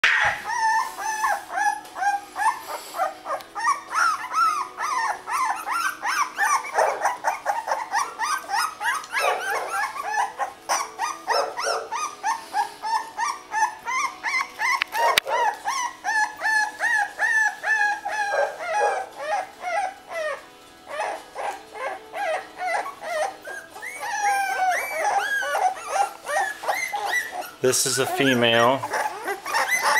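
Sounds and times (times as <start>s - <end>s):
puppies squeaking and whining: 0.0s - 29.9s.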